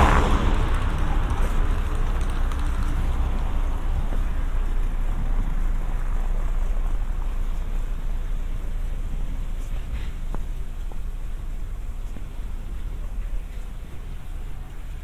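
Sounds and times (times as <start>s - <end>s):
street noise low rumble: 0.0s - 15.0s.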